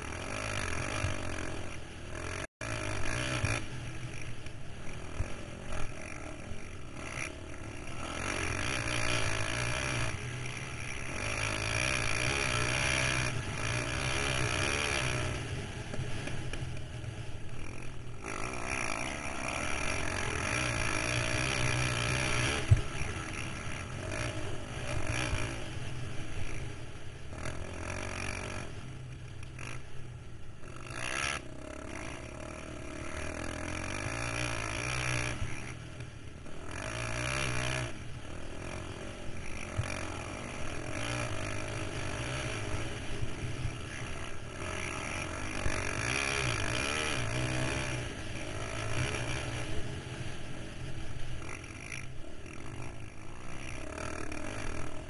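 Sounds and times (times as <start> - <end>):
quad engine revving: 0.0 - 30.0, 30.6 - 55.0.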